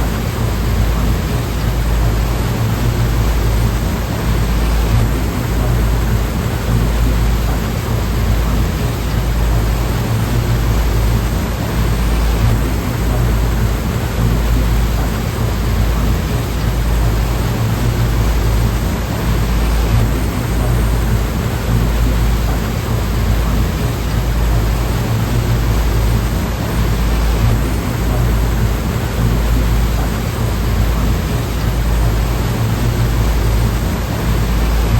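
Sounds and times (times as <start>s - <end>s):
deep low rumble: 0.5s - 33.8s.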